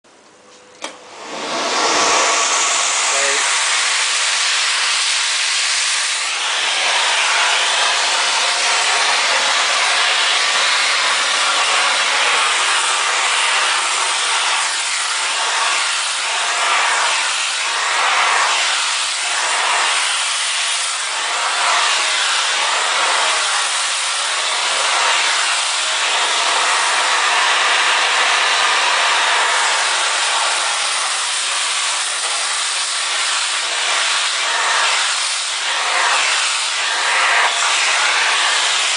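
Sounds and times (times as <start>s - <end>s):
vacuum cleaner running: 0.5s - 38.9s.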